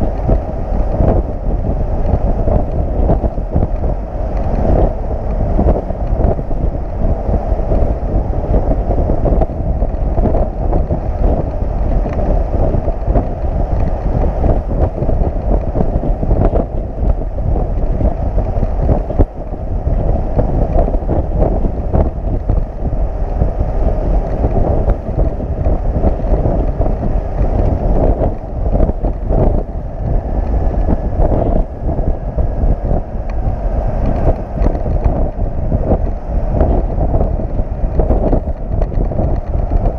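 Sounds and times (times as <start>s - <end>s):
truck road noise: 0.0s - 39.9s
wind buffeting microphone: 0.0s - 39.9s.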